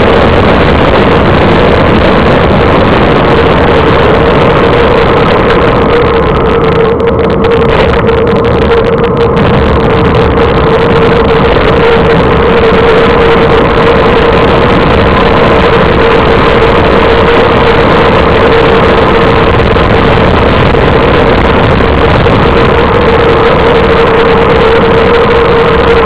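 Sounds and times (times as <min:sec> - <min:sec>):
steady mid-pitched tone: 0:00.0 - 0:26.0
wind rush on microphone: 0:00.0 - 0:26.0.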